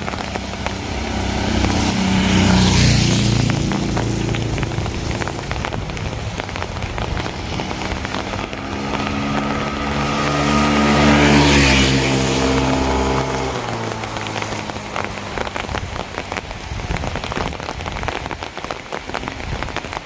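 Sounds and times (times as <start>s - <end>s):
rain pattering and dripping: 0.0s - 20.0s
vehicle passing on wet street: 0.0s - 20.0s.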